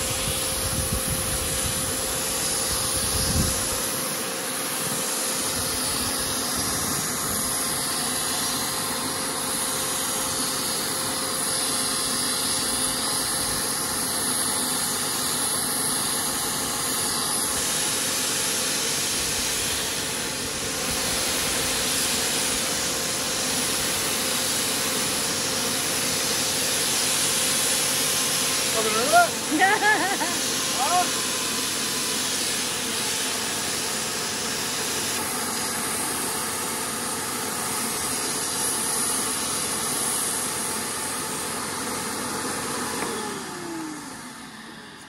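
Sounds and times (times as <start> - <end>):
paint sprayer air rush: 0.0 - 45.0
turbine hum: 0.0 - 45.0.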